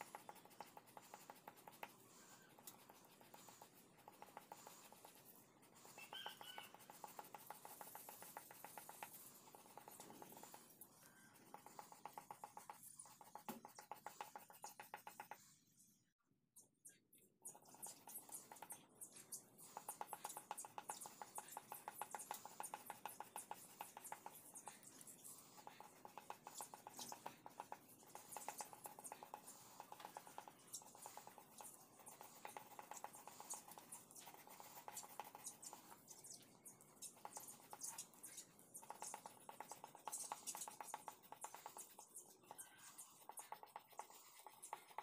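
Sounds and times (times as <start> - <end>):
colored pencil scratching on paper: 0.0 - 15.8, 16.9 - 45.0.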